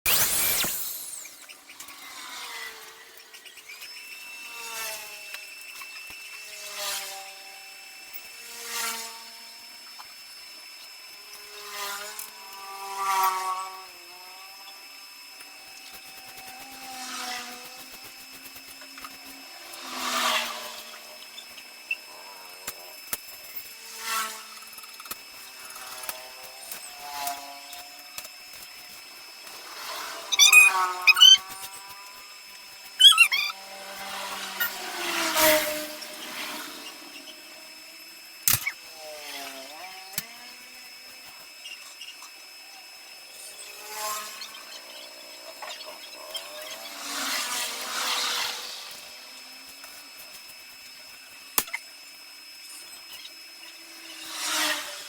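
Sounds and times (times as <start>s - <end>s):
handheld power tool running: 0.1s - 55.0s.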